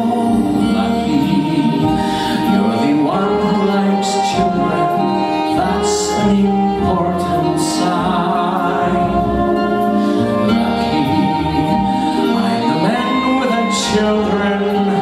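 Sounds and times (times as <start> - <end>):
instrumental accompaniment: 0.0 - 15.0
man singing into microphone: 0.0 - 15.0.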